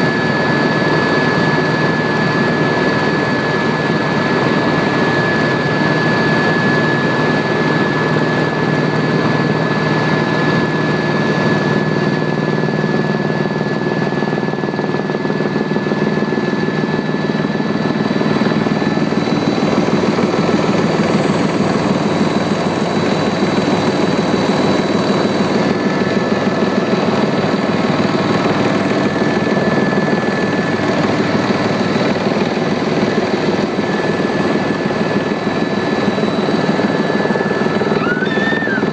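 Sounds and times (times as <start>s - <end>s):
helicopter rotor drone: 0.0s - 38.9s
turbine high whine: 0.0s - 38.9s.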